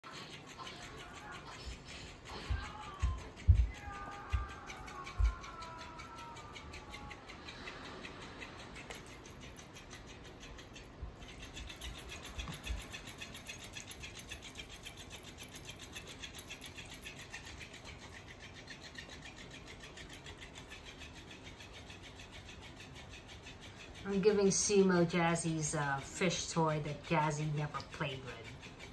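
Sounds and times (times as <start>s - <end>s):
toy fish flapping on tile: 0.0s - 28.9s.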